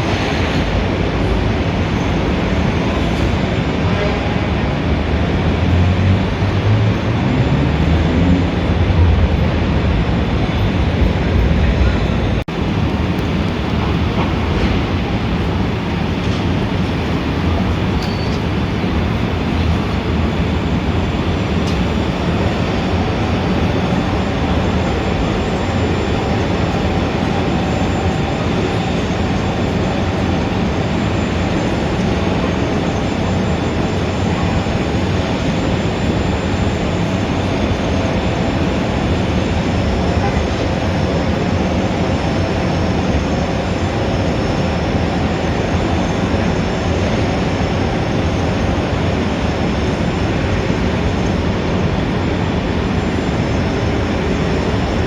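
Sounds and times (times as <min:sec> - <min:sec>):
city traffic rumble: 0:00.0 - 0:55.0
faint steady whines: 0:00.0 - 0:55.0.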